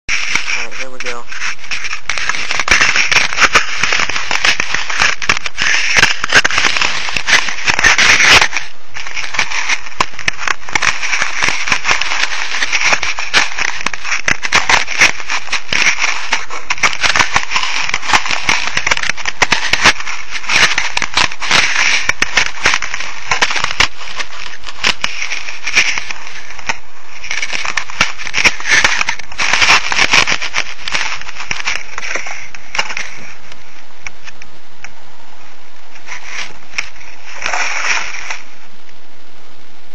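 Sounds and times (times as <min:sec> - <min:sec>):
rushing noise with crackles: 0:00.1 - 0:39.9.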